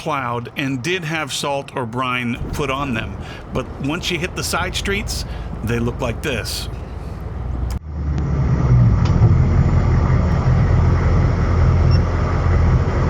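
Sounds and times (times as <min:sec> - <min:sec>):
diesel engine running: 0:00.0 - 0:13.0
road noise: 0:00.0 - 0:13.0.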